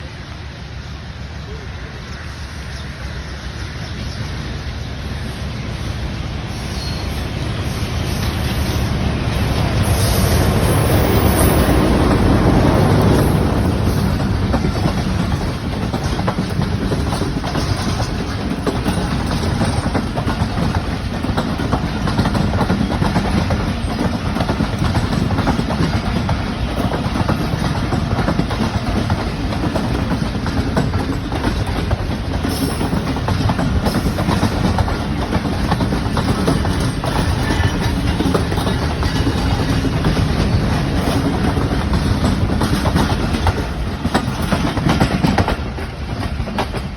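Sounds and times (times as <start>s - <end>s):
train rumbling on rails: 0.0s - 46.9s
wheels clacking over rail joints: 8.1s - 46.9s.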